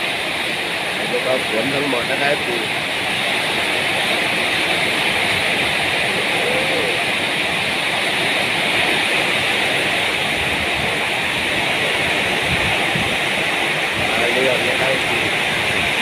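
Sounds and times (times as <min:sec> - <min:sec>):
heavy rain falling: 0:00.0 - 0:16.0
strong wind: 0:00.0 - 0:16.0.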